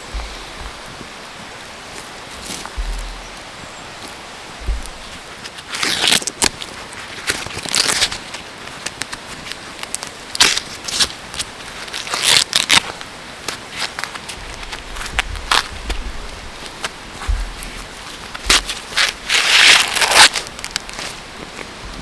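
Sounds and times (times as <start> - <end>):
charcoal fire crackling: 0.0 - 22.0
rustling crinkling bursts: 0.0 - 22.0.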